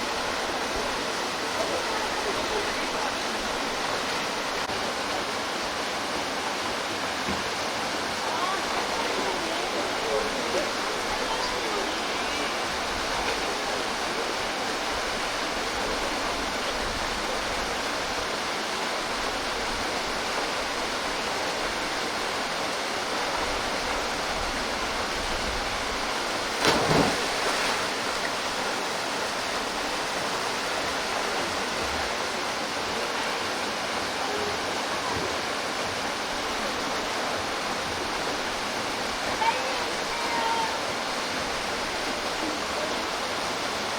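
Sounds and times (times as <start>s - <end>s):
waterfall pouring into pool: 0.0s - 43.9s.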